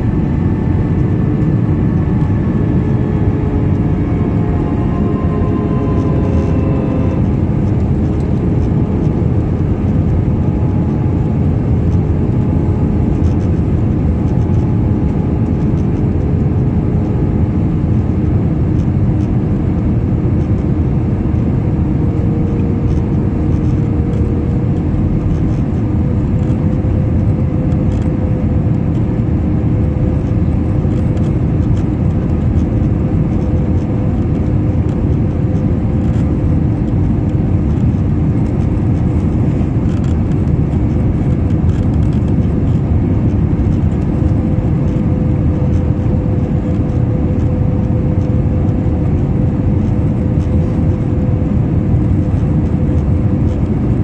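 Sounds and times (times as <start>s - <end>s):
humming engine tone: 0.0s - 54.0s
jet engine drone: 0.0s - 54.0s.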